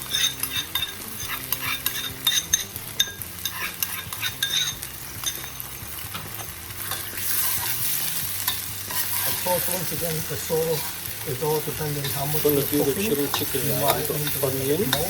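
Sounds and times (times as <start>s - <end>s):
metal utensil scraping a pan: 0.0s - 15.0s
vegetables sizzling in a hot pan: 0.0s - 15.0s.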